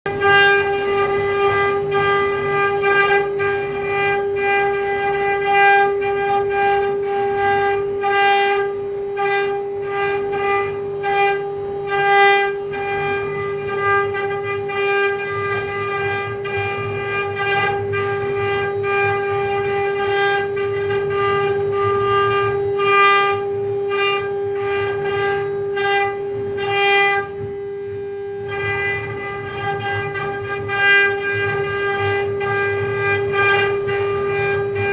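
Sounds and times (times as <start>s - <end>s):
engraving machine spindle whine: 0.1s - 34.9s
rasping cutting noise: 0.1s - 34.9s.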